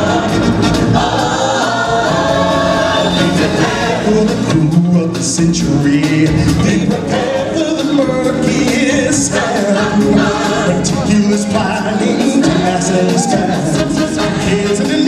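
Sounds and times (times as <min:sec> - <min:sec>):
backing music: 0:00.0 - 0:15.0
voices singing: 0:00.0 - 0:15.0.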